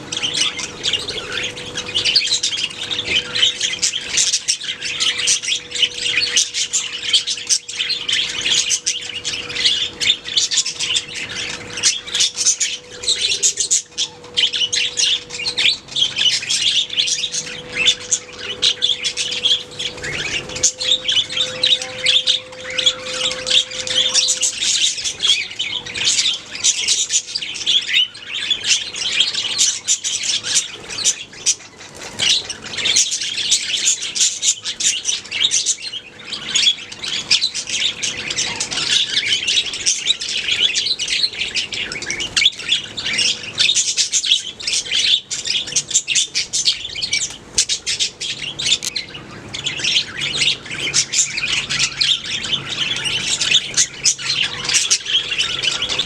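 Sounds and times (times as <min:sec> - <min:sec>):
budgies chattering and chirping: 0:00.0 - 0:56.0.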